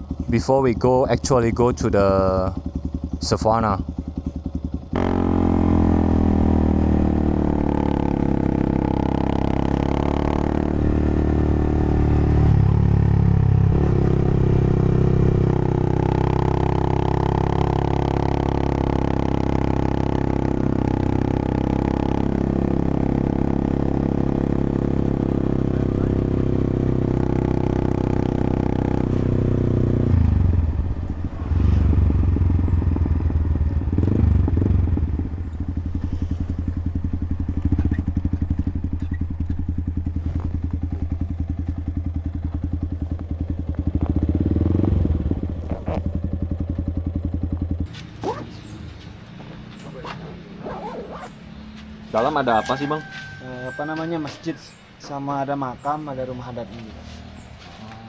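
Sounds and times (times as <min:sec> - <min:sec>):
motorcycle engine running: 0:00.0 - 0:53.9, 0:54.7 - 0:58.0.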